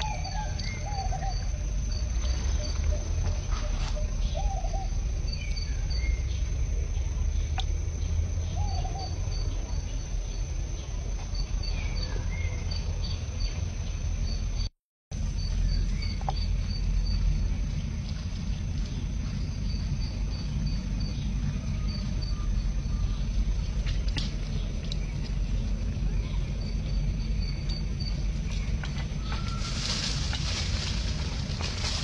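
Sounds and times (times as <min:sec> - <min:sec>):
pulsed insect chirping: 0:00.0 - 0:32.0
steady low rumble: 0:00.0 - 0:32.0.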